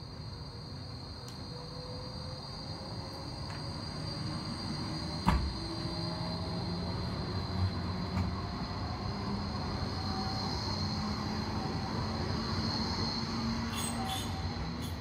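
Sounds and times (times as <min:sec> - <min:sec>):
electric tram passing: 0:00.0 - 0:15.0
high-pitched tram whine: 0:01.4 - 0:15.0.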